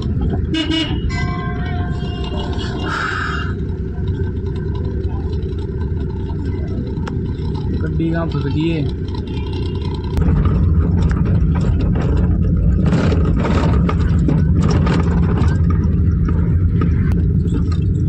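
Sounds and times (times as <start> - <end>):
car engine drone: 0.0 - 18.0
road noise inside car: 0.0 - 18.0.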